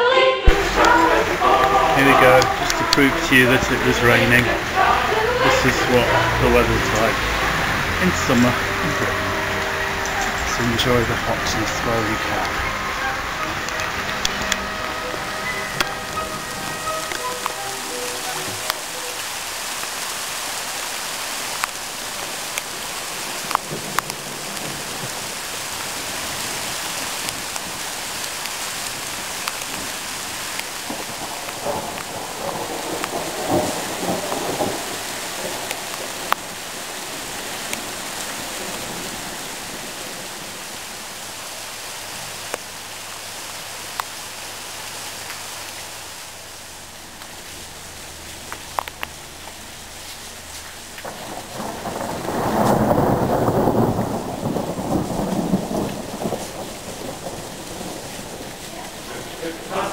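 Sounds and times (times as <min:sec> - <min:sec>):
steady rain falling: 0:00.4 - 0:59.9
raindrops ticking close by: 0:00.5 - 0:59.9.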